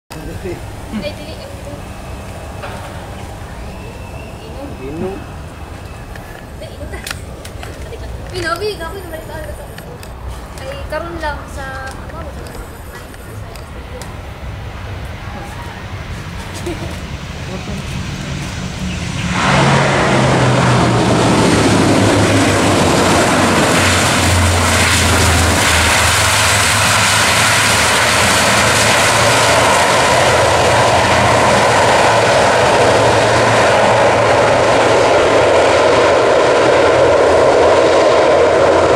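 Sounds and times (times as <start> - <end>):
turboprop engines and propellers: 0.1 - 38.9.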